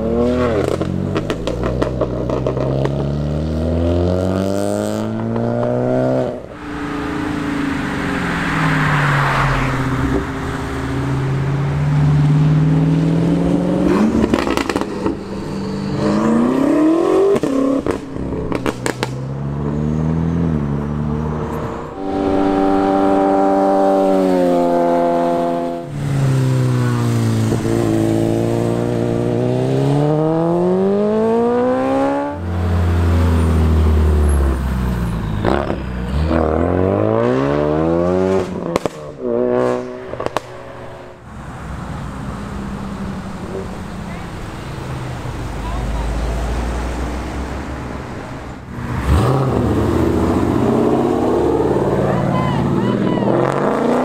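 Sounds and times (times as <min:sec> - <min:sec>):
sports car engines revving: 0:00.0 - 0:54.0.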